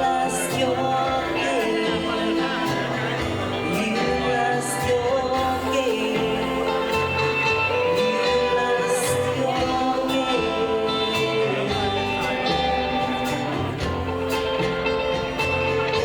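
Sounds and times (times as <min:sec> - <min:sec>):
rockabilly band playing: 0:00.0 - 0:16.0.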